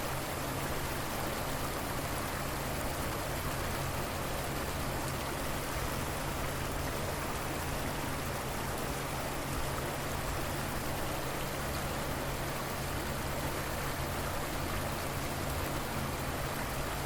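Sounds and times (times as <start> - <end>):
river water flowing: 0.0 - 17.0.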